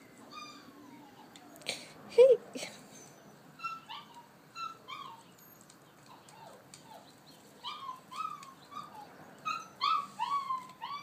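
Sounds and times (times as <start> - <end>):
puppy whimpering: 0.2 - 2.4, 3.0 - 5.3, 6.0 - 11.0.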